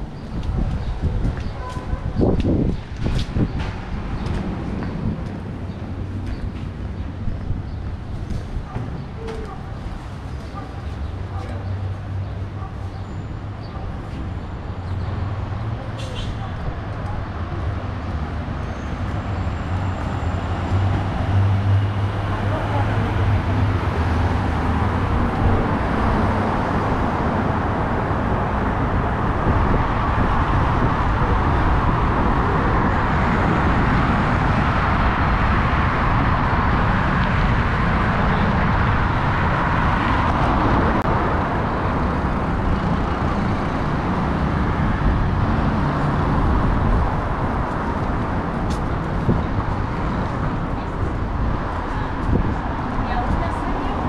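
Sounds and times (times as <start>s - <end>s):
cars going by: 0.0s - 54.0s.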